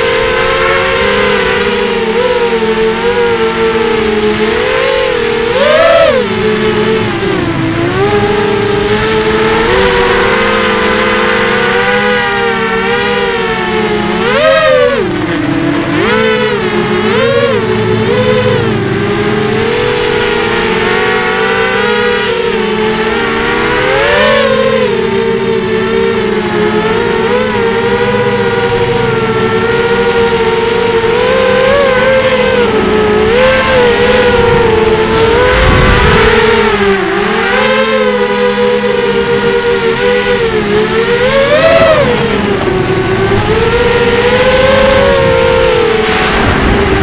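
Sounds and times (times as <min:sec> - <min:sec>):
drone motors and propellers whining: 0:00.0 - 0:47.0.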